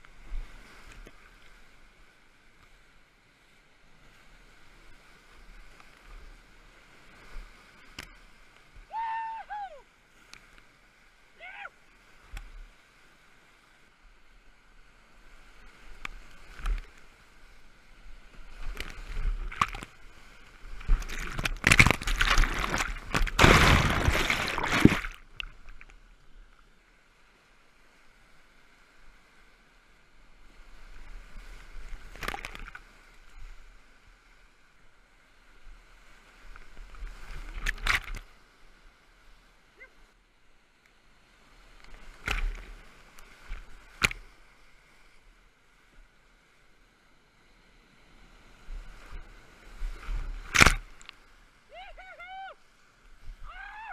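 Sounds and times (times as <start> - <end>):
waves splashing over kayak: 0.0 - 53.9.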